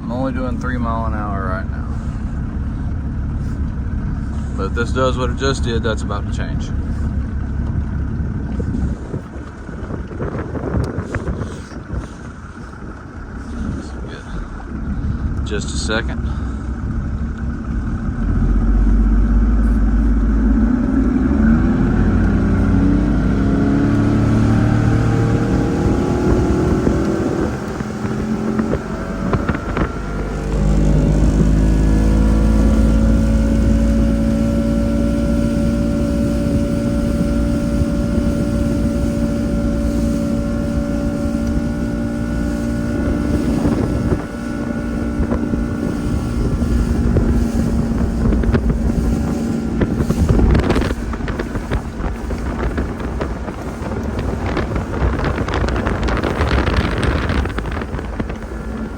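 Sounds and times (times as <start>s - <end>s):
outboard motor revving: 0.0s - 58.9s
wind buffeting microphone: 0.0s - 58.9s.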